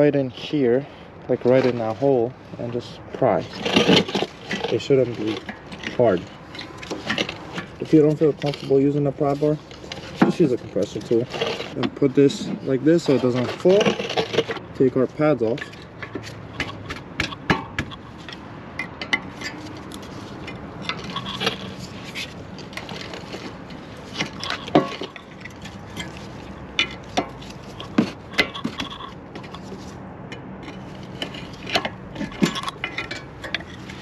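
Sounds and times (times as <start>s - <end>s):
metallic clinks and scrapes: 0.0s - 34.0s.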